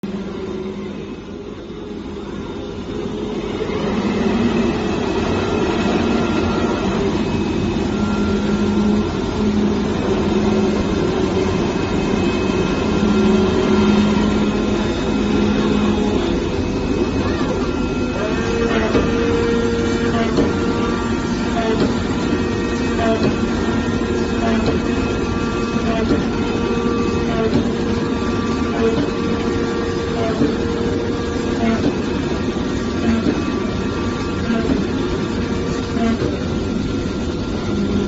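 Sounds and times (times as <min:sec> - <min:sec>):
machine running with low hum: 0:00.0 - 0:38.0
faint high whines: 0:00.1 - 0:38.0.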